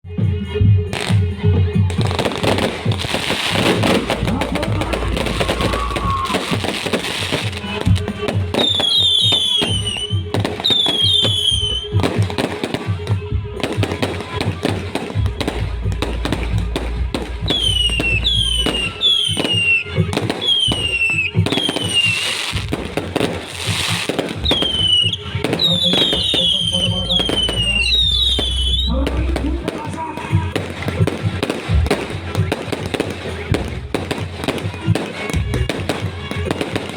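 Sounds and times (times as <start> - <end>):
music: 0.0 - 36.9
fireworks crackling and banging: 0.8 - 36.9
fireworks whistling: 0.9 - 36.9.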